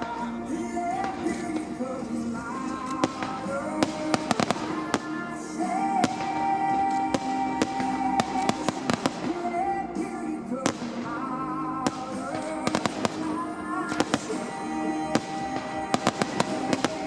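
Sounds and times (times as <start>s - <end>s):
fireworks bangs: 0.0s - 17.0s
loud music: 0.0s - 17.0s.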